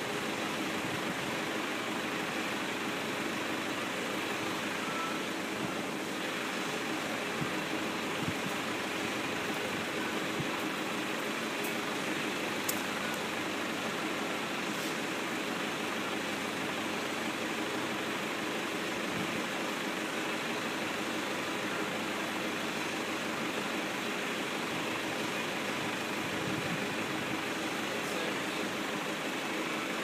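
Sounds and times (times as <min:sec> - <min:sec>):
constant hiss: 0:00.0 - 0:30.0
tractor engine idling: 0:00.0 - 0:30.0.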